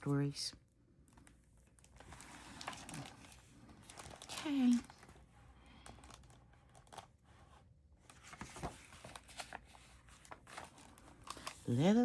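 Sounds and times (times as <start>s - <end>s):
picture book rustling: 1.0s - 12.0s.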